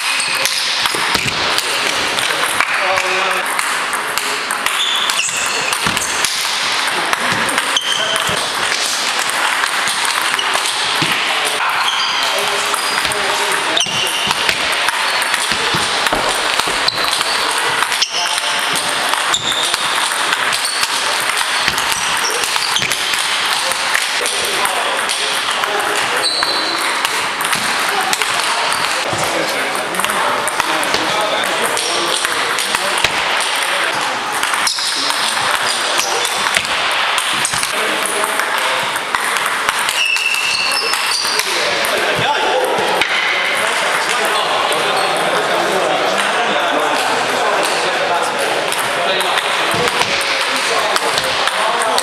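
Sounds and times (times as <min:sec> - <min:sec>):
background noise: 0:00.0 - 0:52.0.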